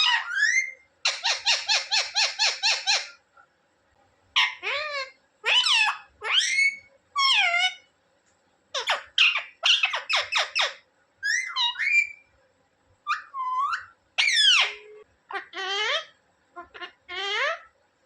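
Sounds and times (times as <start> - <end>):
parrot shrill calls: 0.0 - 3.2, 4.4 - 7.9, 8.7 - 12.3, 13.0 - 17.7.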